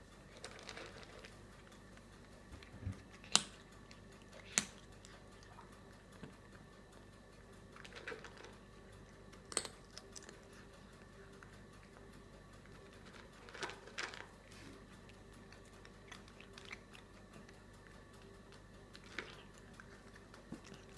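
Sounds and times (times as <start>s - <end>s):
cat eating from bowl: 0.1s - 20.9s.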